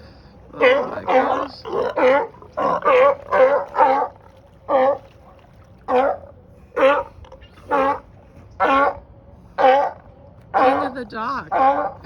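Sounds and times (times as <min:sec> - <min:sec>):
sea lions barking: 0:00.0 - 0:12.0.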